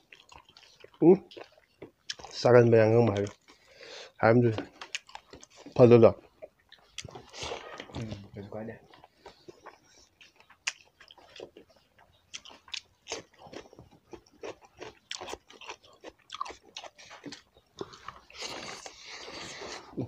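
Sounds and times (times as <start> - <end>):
people chewing and crunching food: 0.0 - 20.0.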